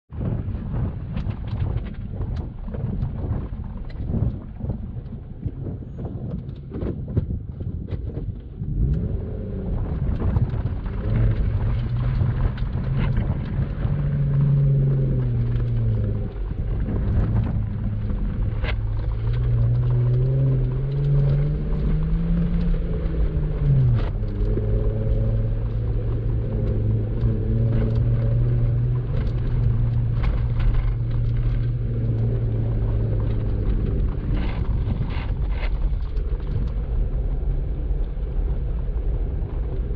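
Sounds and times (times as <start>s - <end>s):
car engine at low revs: 0.1s - 39.9s.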